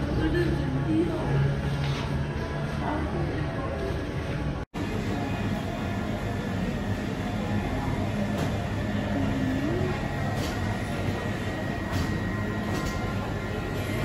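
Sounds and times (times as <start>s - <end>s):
refrigeration machinery hum: 0.0s - 14.0s.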